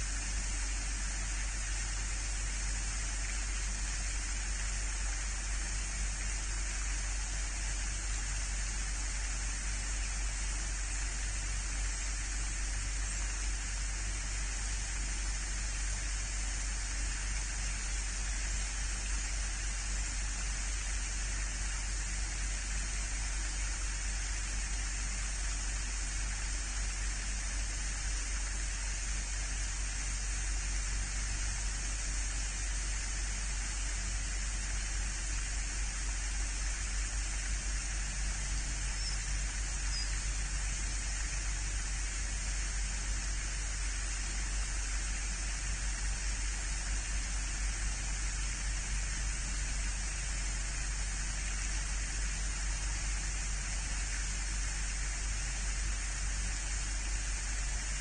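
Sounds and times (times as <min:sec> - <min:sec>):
outdoor microphone hiss: 0:00.0 - 0:58.0.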